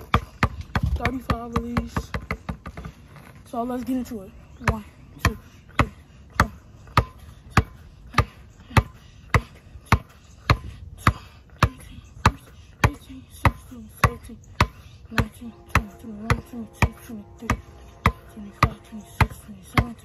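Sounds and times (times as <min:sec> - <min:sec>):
basketball bouncing on hard ground: 0:00.0 - 0:20.0.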